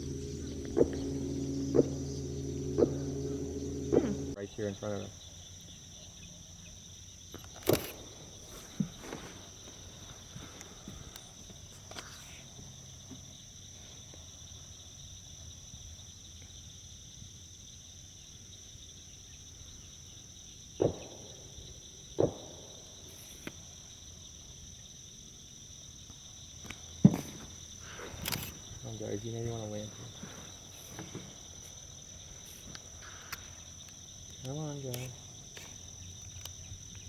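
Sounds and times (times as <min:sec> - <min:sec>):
shrill insect or frog chorus: 0:00.0 - 0:37.0.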